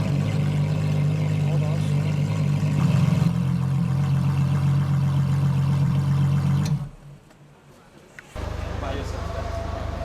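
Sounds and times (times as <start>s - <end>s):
car engine idling: 0.0s - 6.9s, 8.4s - 10.0s.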